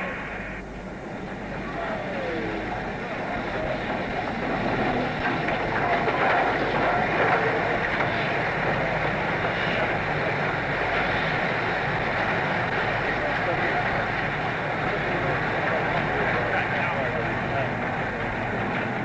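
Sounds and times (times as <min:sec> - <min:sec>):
steam locomotive running: 0:00.0 - 0:19.0.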